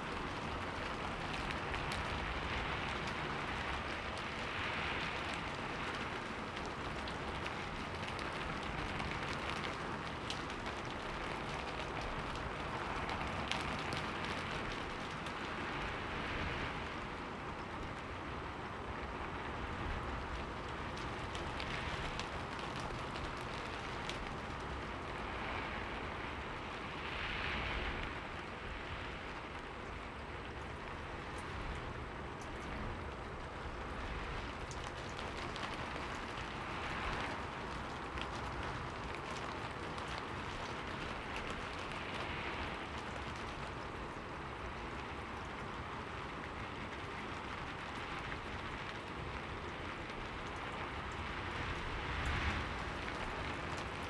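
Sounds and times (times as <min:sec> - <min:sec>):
rain drops ticking on window: 0:00.0 - 0:54.0
rain hiss: 0:00.0 - 0:54.0.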